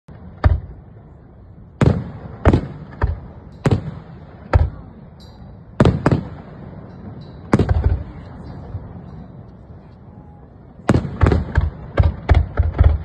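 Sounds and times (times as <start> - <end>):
fireworks booming: 0.1 - 9.4, 10.7 - 13.0.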